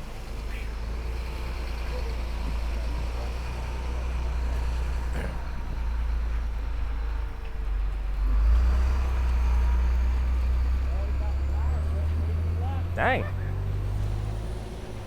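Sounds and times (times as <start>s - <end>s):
heavy truck engine rumbling: 0.0s - 15.0s.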